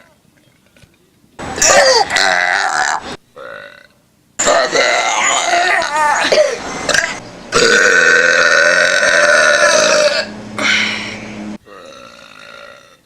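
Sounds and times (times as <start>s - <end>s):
person burping loudly: 1.6s - 10.8s, 11.6s - 13.0s.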